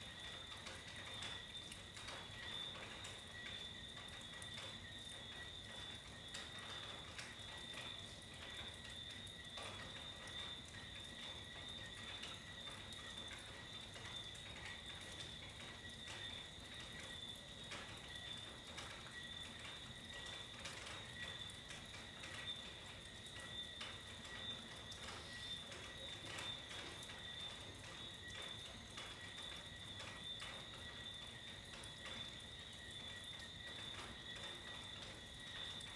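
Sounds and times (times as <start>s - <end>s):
rain dripping: 0.0s - 35.9s.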